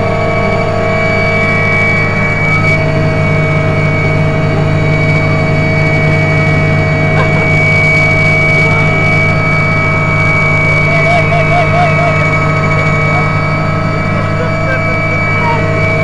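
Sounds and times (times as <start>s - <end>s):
helicopter engines and rotor drone: 0.0s - 16.0s.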